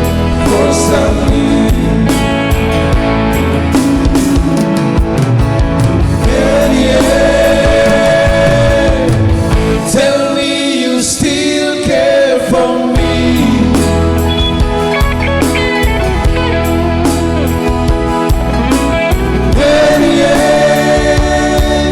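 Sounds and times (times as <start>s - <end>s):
drums: 0.0s - 10.2s, 13.0s - 21.9s
guitar: 0.0s - 21.9s.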